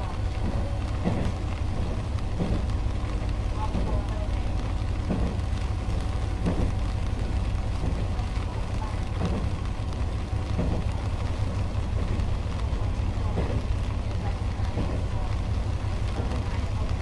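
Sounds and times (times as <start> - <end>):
railcar engine and wheels rumble: 0.0 - 17.0.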